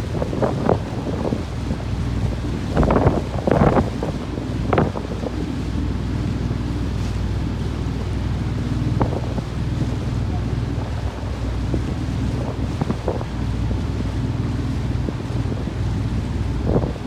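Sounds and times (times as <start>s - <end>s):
boat engine drone: 0.0s - 17.0s
rushing water: 0.0s - 17.0s
wind buffeting microphone: 0.0s - 17.0s.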